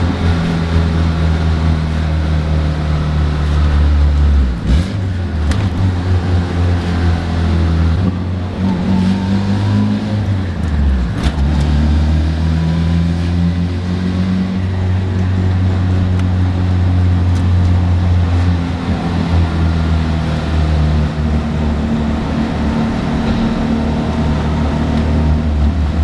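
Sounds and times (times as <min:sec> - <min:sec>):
sharp clicks of gear shifts: 0:00.0 - 0:12.5, 0:14.5 - 0:26.0
car engine under load: 0:00.0 - 0:26.0.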